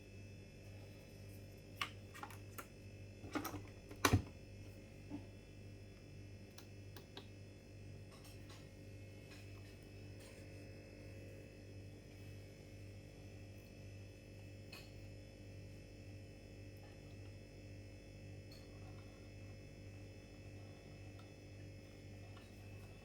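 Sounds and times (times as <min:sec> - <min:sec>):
coffee maker humming: 0:00.0 - 0:14.8, 0:15.7 - 0:23.0.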